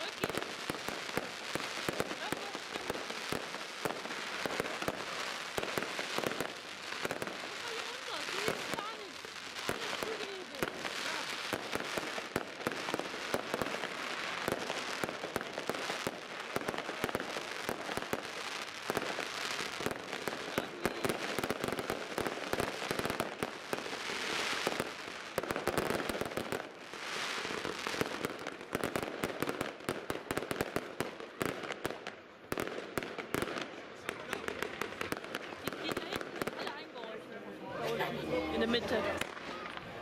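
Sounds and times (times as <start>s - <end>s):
hissing crackle of fireworks: 0.0s - 37.1s, 38.6s - 40.0s
fireworks and firecrackers popping: 0.0s - 37.2s, 38.6s - 40.0s.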